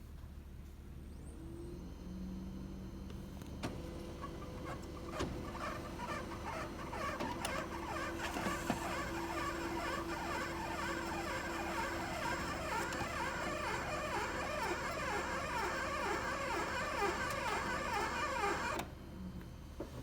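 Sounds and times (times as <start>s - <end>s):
printer running: 3.0s - 19.7s.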